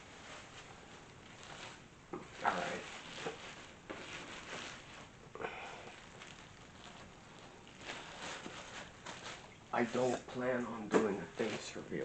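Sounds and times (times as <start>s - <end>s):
cardboard box and packing rustling: 0.0s - 12.0s.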